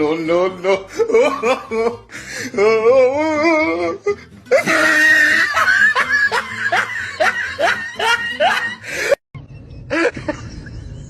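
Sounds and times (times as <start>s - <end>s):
person laughing hard: 0.6s - 2.7s, 3.7s - 11.0s.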